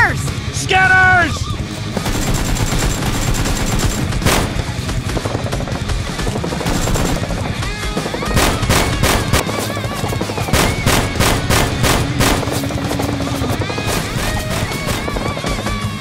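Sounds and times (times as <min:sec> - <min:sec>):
background music: 0:00.0 - 0:16.0
rapid gunfire: 0:01.8 - 0:16.0.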